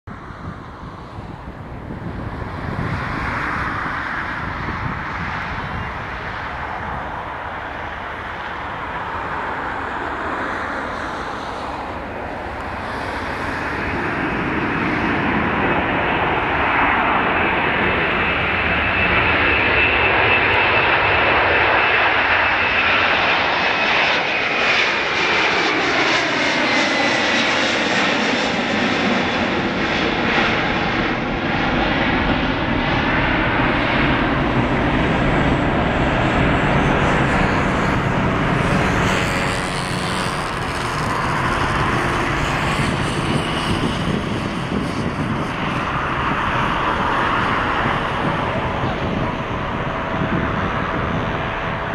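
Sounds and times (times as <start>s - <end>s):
high engine whine: 0.1s - 51.9s
jet engines at takeoff thrust: 0.1s - 51.9s.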